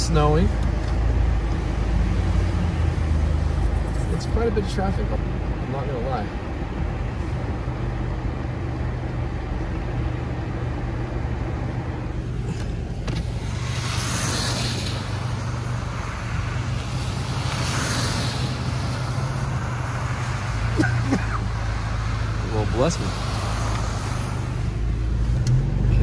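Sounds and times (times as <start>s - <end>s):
car engine humming: 0.0s - 26.0s
vehicles swishing by on wet road: 0.0s - 26.0s.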